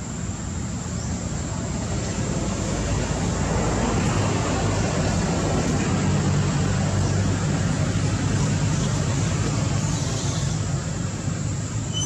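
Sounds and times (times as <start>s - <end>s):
constant hiss: 0.0s - 12.0s.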